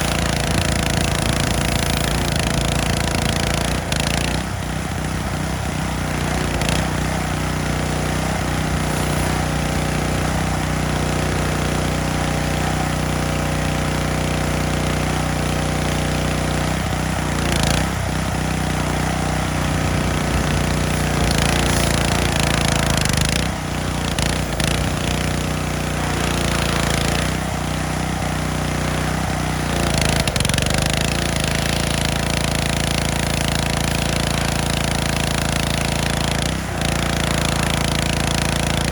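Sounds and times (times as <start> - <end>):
water spray hissing: 0.0 - 15.7, 16.6 - 38.9
pressure washer engine running: 0.0 - 38.9.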